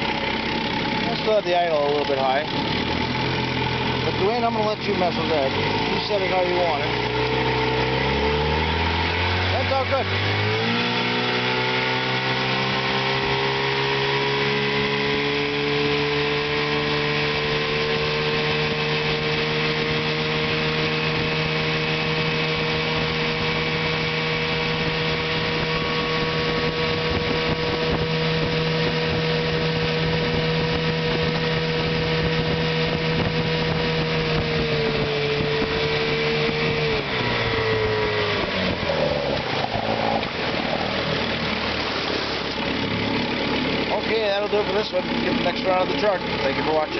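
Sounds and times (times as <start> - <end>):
outboard motor running: 0.0 - 46.9.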